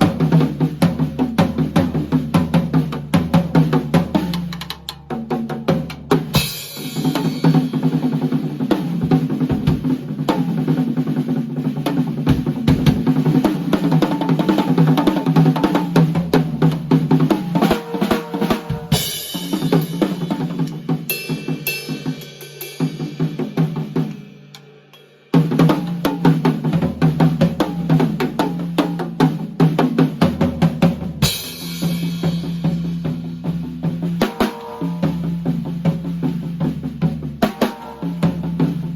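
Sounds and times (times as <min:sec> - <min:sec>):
drum kit groove: 0:00.0 - 0:38.9.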